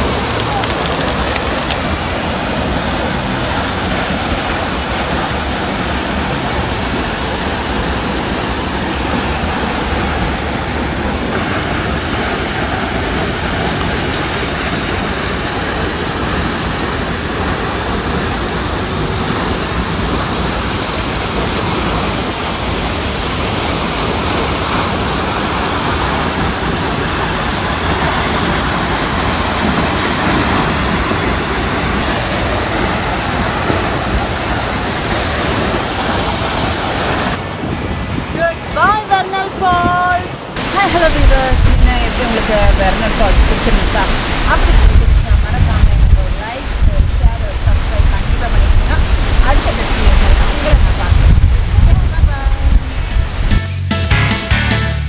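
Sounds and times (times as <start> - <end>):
waterfall pouring onto rocks: 0.0 - 37.4, 40.6 - 52.4.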